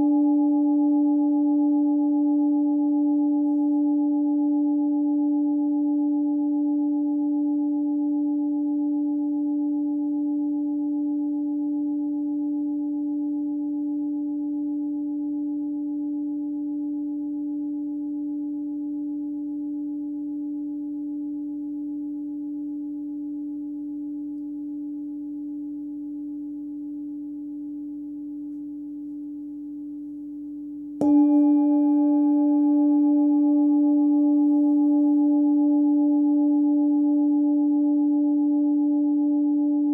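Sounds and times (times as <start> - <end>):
singing bowl ringing: 0.0 - 39.9.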